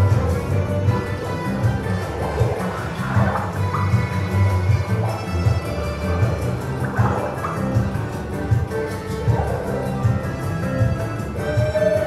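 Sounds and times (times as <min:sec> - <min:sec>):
orchestral background music: 0:00.0 - 0:12.0.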